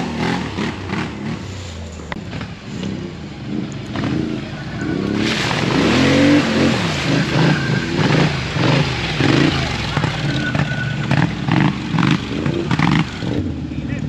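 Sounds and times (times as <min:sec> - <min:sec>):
atv engine revving: 0:00.0 - 0:14.0
tyres churning mud and water: 0:00.0 - 0:14.0.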